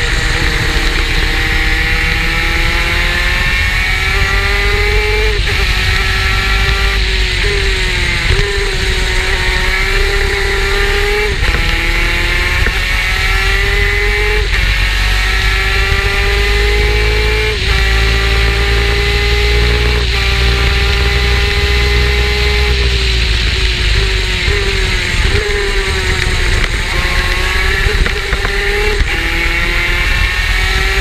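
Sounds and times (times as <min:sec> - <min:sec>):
two-stroke racing engine revving: 0:00.0 - 0:31.0.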